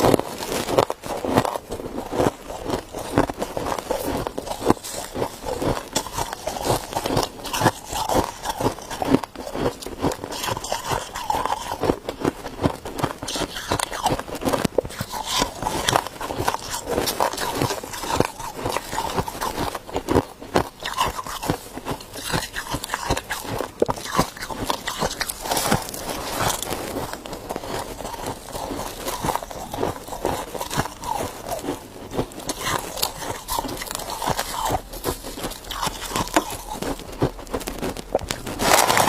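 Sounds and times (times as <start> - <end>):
ice being chewed: 0.0 - 39.0.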